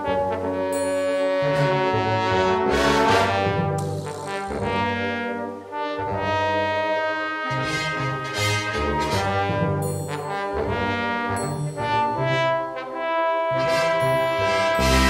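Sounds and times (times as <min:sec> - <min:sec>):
brass wind band music: 0:00.0 - 0:15.0.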